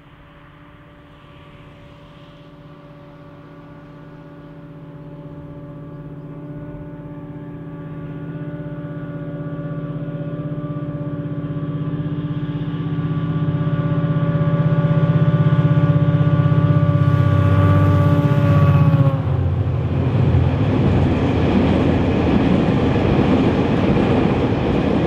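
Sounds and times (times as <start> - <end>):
diesel locomotive engine running: 0.0 - 25.0
train wheels rumbling on rails: 0.0 - 25.0.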